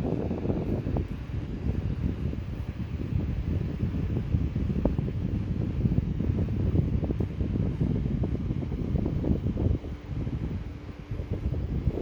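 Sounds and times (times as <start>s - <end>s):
fan airflow on microphone: 0.0s - 12.0s.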